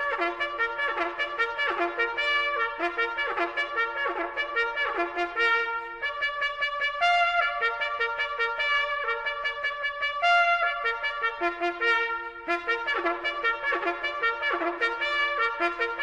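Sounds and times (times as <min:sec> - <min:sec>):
trumpet playing a brisk tune: 0:00.0 - 0:16.0.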